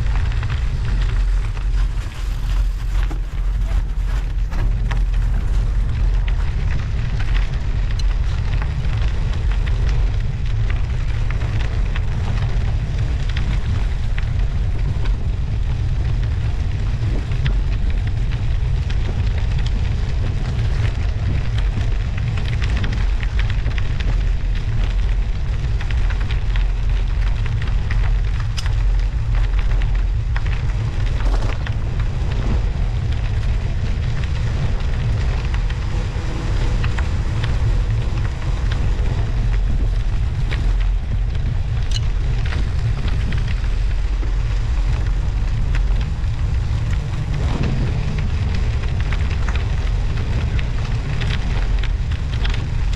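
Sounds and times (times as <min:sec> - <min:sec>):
studded tyres rolling on snow: 0:00.0 - 0:52.9
wind rumble on microphone: 0:00.0 - 0:52.9.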